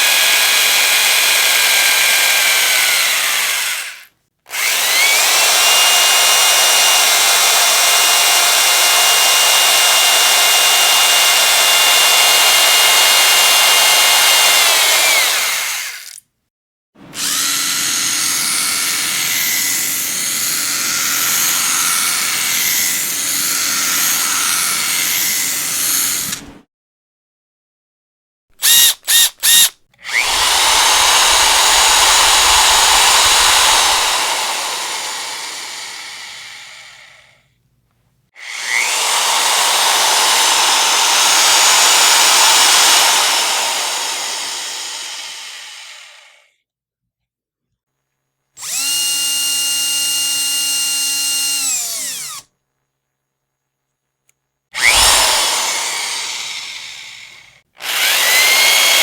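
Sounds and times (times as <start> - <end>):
electric power drill whirring: 0.0 - 16.2, 17.1 - 26.5, 28.6 - 37.3, 38.4 - 46.6, 48.6 - 52.5, 54.8 - 59.0.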